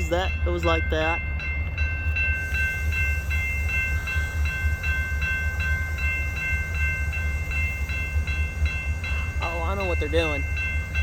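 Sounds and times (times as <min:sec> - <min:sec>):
diesel locomotive rumble: 0:00.0 - 0:11.0
railroad crossing bell ringing: 0:00.0 - 0:11.0.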